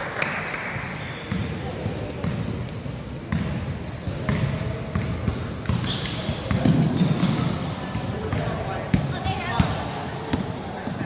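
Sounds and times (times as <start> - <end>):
sneakers squeaking on court: 0.4 - 11.0.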